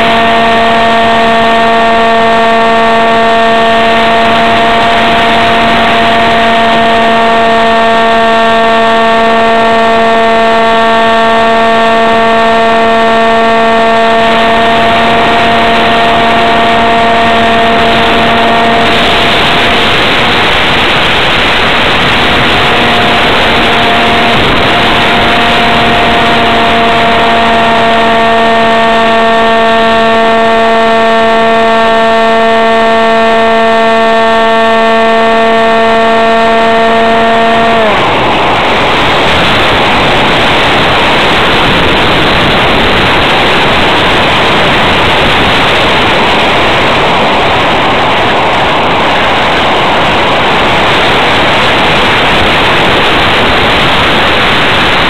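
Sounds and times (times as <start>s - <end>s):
rushing air: 0.0s - 33.6s, 34.7s - 55.0s
electric motor whining: 0.0s - 55.0s.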